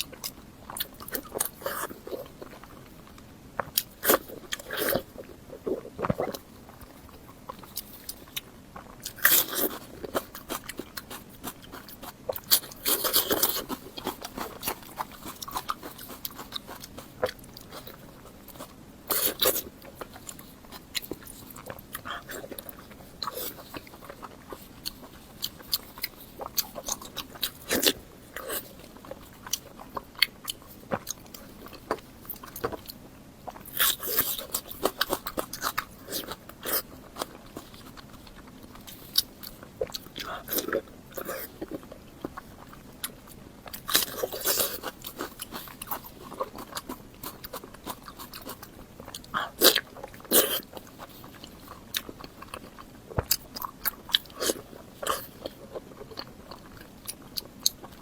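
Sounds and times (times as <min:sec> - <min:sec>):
person chewing meat: 0:00.0 - 0:58.0.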